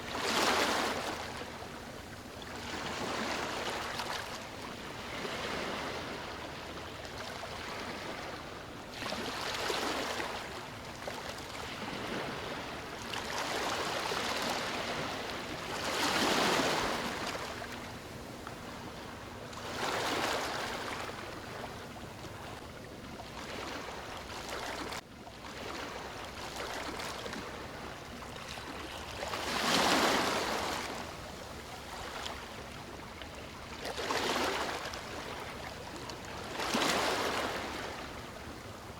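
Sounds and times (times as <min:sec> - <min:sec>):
small waves washing in: 0:00.0 - 0:22.6, 0:23.2 - 0:38.9.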